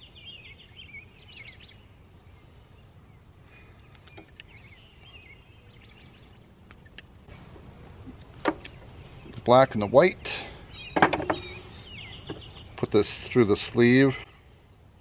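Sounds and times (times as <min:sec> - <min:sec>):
faint birdsong: 0:00.0 - 0:15.0
low outdoor background noise: 0:00.0 - 0:15.0.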